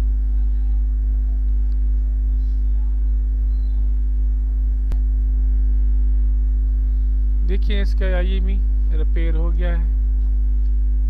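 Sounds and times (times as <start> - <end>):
electrical mains hum: 0.0 - 11.0
faint steady tone: 0.0 - 11.0.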